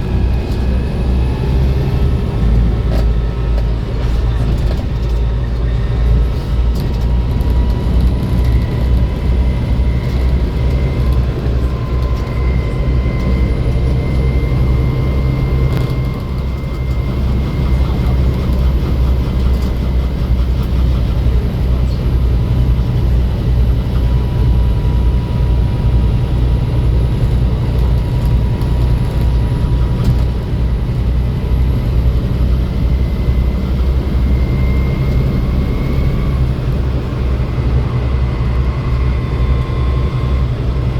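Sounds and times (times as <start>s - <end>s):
bus engine drone: 0.0s - 40.9s
thin steady whine: 0.0s - 40.9s.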